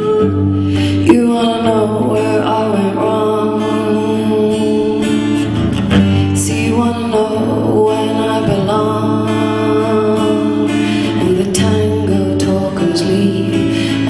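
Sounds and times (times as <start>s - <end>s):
strummed acoustic guitar: 0.0s - 14.0s
woman singing: 0.0s - 14.0s.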